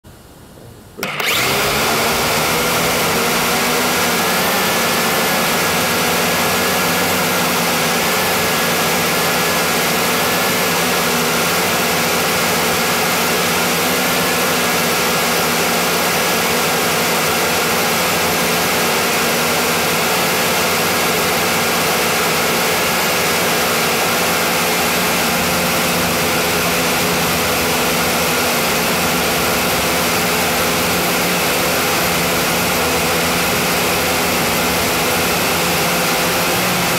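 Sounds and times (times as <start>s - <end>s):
drone motors whining: 1.0s - 36.9s.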